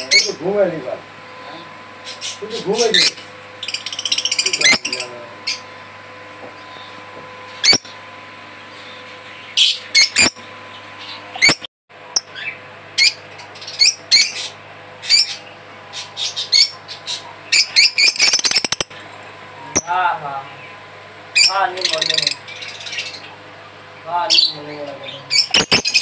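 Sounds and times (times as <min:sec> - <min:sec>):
birds chirping and squawking: 0:00.0 - 0:26.0.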